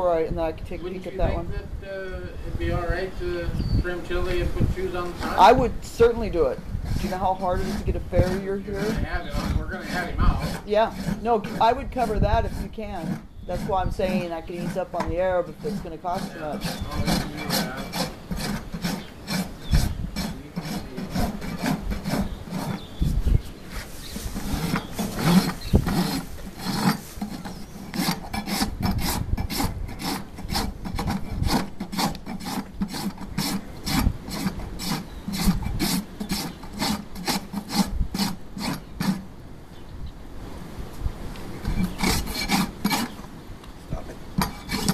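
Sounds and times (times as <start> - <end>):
rasp scraping a hoof: 5.1 - 39.3, 41.6 - 43.3, 44.3 - 44.9.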